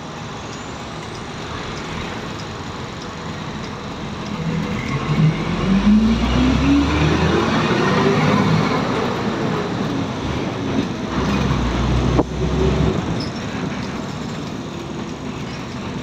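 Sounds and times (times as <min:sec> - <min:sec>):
bus engine running: 0:00.0 - 0:16.0
road noise: 0:00.0 - 0:16.0.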